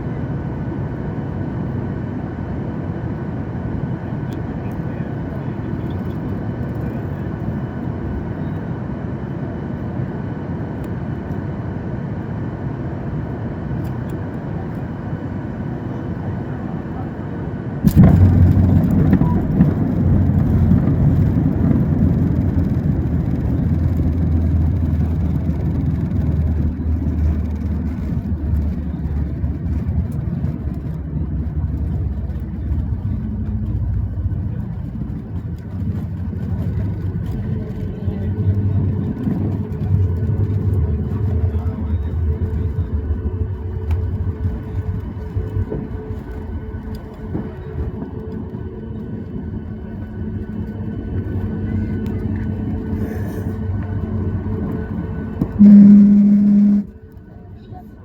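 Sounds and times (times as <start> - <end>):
aircraft rollout rumble and roar: 0.0 - 58.0
airplane cabin hum: 0.0 - 58.0.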